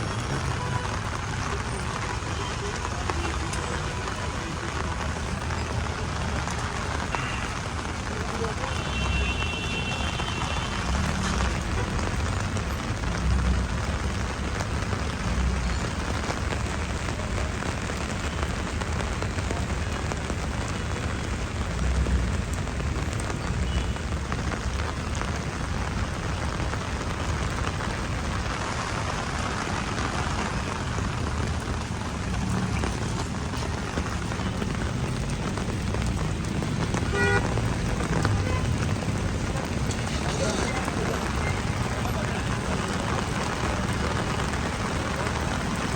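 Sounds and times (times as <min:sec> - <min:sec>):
heavy rain on a street: 0:00.0 - 0:45.9.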